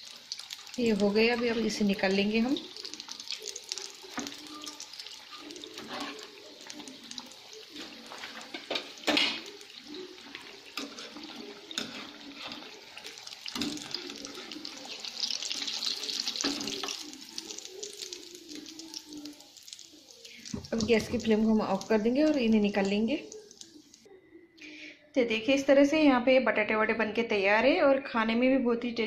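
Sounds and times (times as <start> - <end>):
food sizzling in hot oil: 0.0 - 24.1.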